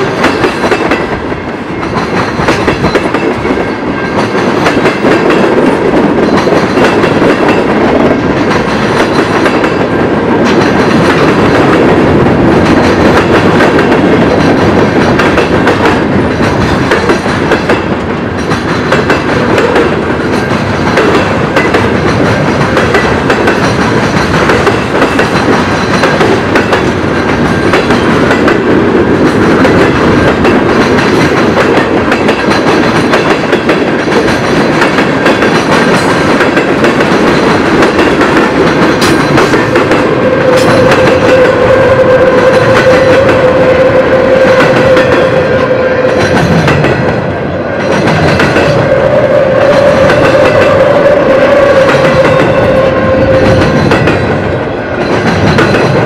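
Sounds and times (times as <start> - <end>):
clickety-clack over rail joints: 0.0 - 56.0
steel wheels rolling on rail: 0.0 - 56.0.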